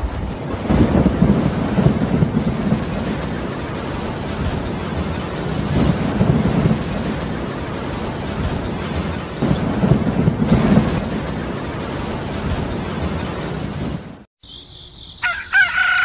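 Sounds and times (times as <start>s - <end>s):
low rolls of thunder: 0.0s - 14.2s
steady rain: 0.0s - 14.3s.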